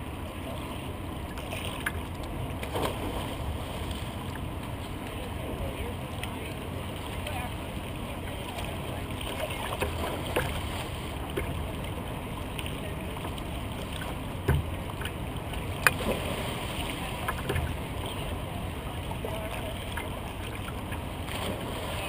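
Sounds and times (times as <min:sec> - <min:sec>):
water lapping around a kayak: 0:00.0 - 0:22.0.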